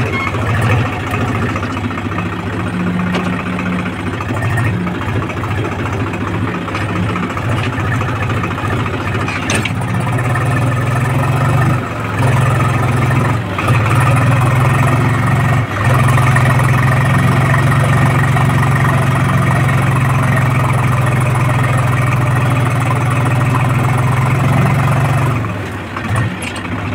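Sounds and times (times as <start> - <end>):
tractor diesel engine under load: 0.0 - 26.9.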